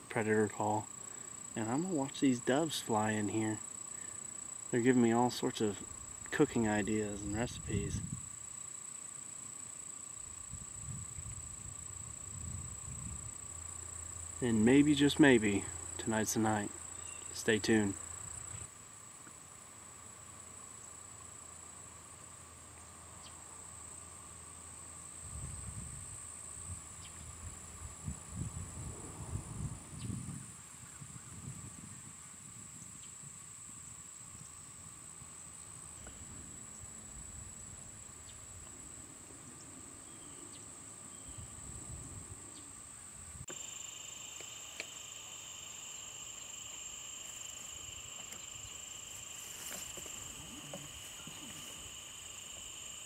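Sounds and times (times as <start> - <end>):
insects chirring: 0.0 - 53.0
lower insect tone: 0.0 - 53.0.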